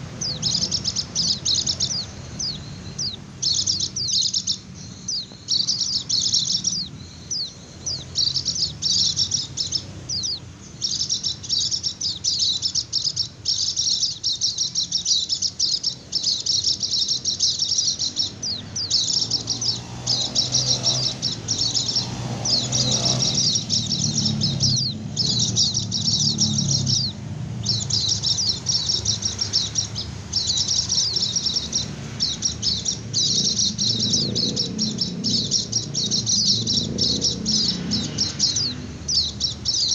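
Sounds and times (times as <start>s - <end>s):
white-eye bird twittering: 0.0s - 39.9s.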